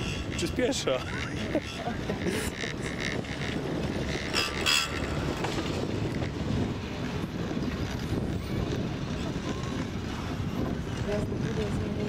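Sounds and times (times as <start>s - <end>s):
chairlift rumble and rattle: 0.0s - 12.0s.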